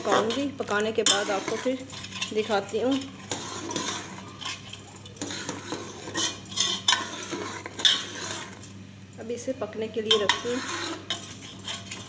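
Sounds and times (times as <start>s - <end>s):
ladle scraping metal pot: 0.0s - 8.8s, 10.1s - 12.0s.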